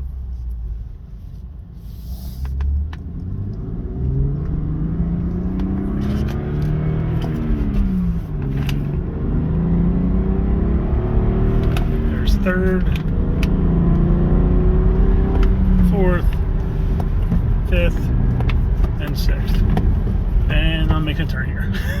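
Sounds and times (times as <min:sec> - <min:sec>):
car engine accelerating: 0:01.8 - 0:22.0.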